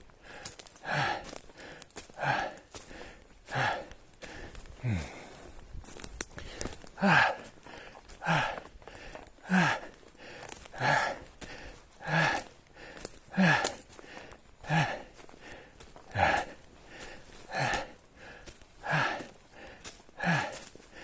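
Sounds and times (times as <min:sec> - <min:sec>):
man breathing hard: 0:00.0 - 0:21.0.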